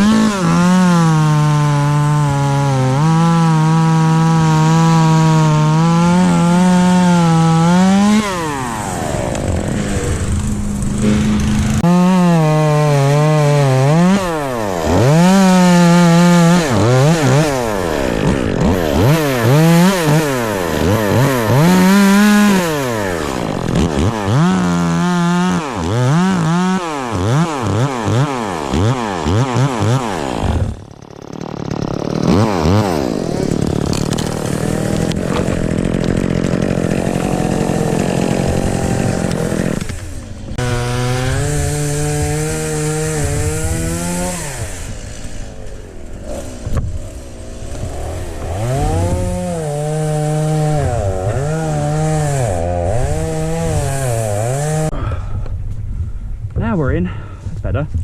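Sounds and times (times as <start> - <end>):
chainsaw revving: 0.0 - 55.1.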